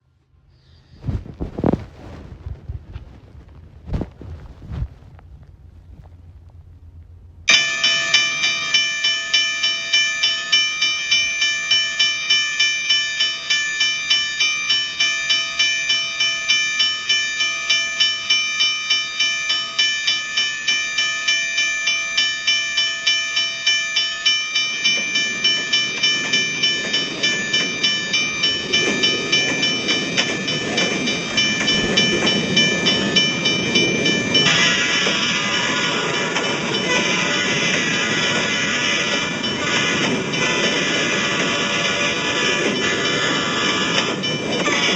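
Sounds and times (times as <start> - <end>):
passing train rumble: 0.0 - 44.9
level crossing warning bell: 7.5 - 44.9.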